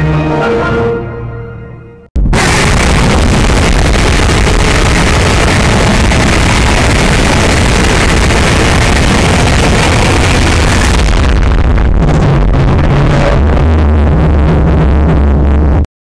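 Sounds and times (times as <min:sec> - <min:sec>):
harsh distorted static noise: 0:02.2 - 0:15.9
heavy low rumble: 0:02.2 - 0:15.9.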